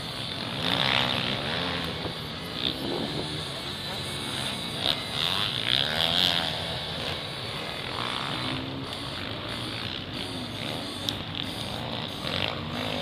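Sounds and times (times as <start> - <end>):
motocross bikes idling and revving: 0.0 - 13.0.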